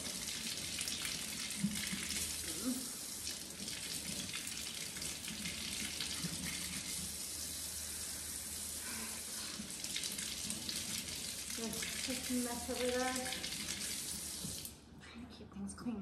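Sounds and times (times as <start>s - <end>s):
faucet running into sink: 0.0s - 14.8s.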